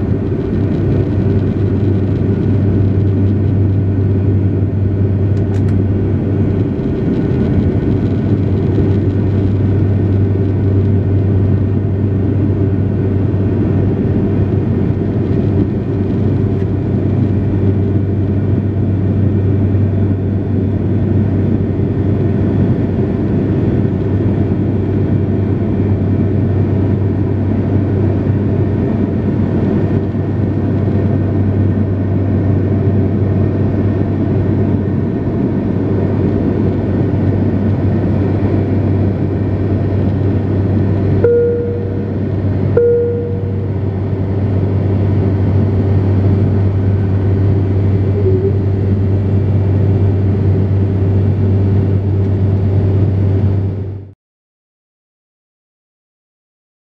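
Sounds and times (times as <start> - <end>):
jet engine cabin drone: 0.0 - 54.2.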